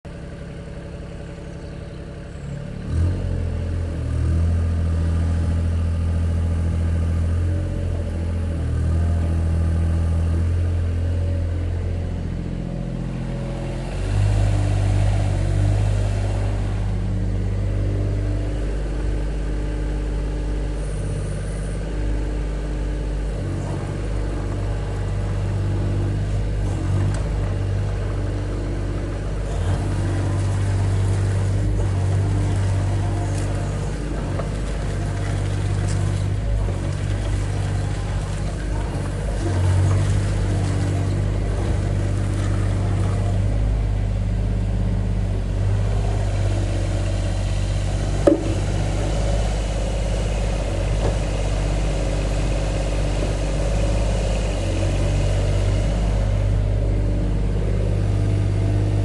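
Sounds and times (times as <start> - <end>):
excavator diesel engine running: 0.1 - 59.0.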